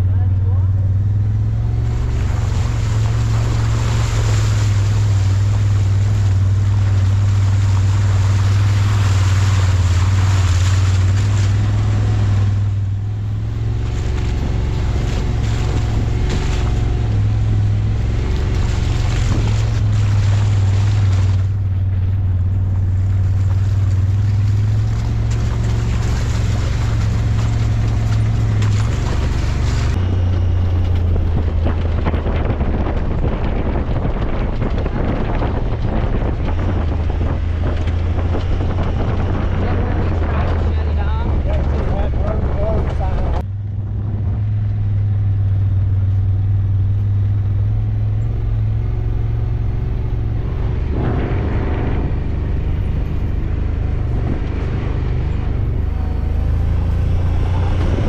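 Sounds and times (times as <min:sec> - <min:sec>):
vehicle engine running: 0:00.0 - 0:58.0
wind noise on microphone: 0:00.0 - 0:58.0.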